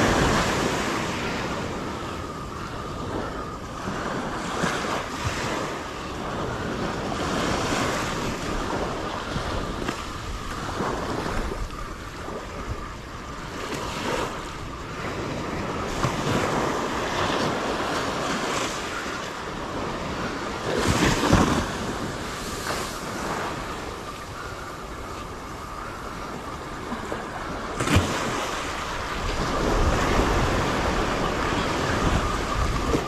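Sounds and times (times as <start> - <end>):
small waves breaking on a beach: 0.0 - 33.0
wind buffeting the microphone: 0.0 - 33.0.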